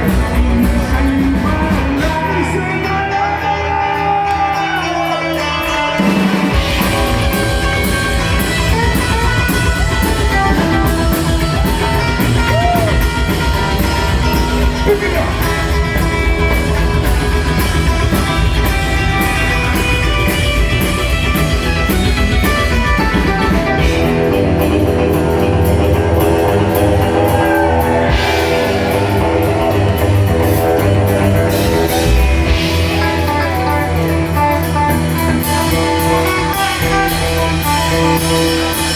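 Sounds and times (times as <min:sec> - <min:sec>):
live rockabilly band playing: 0:00.0 - 0:38.9.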